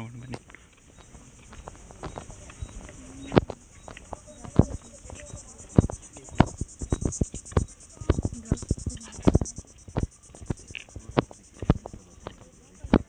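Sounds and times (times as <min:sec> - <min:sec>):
footsteps on paved path: 0:00.0 - 0:13.0
high pulsing insect drone: 0:00.0 - 0:13.0.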